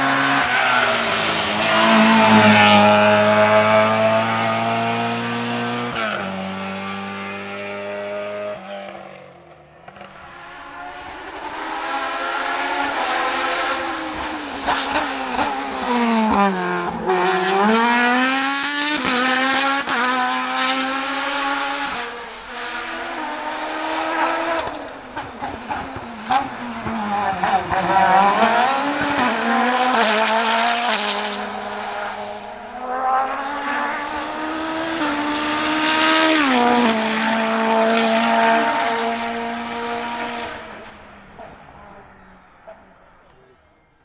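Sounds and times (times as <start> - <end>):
race car engine at full throttle: 0.0 - 43.6.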